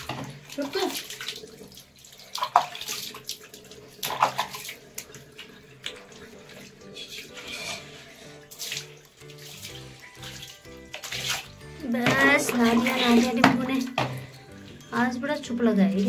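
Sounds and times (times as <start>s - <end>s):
soft background music: 0.0s - 16.0s
water splashing and pouring: 0.0s - 16.0s.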